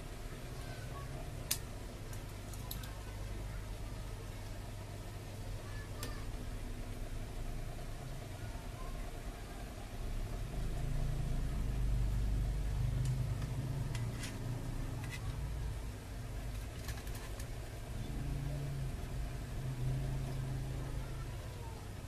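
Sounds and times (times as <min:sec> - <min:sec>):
low motor rumble: 0:00.0 - 0:22.0.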